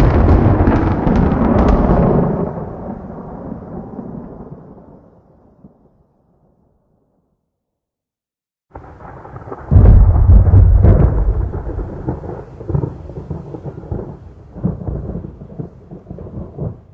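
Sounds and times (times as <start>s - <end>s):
thunder rumbling and crashing: 0.0s - 5.9s, 8.7s - 16.9s.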